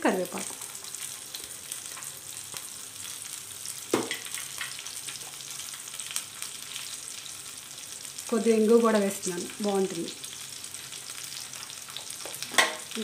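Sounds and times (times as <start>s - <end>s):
spices sizzling in hot ghee: 0.0s - 13.0s.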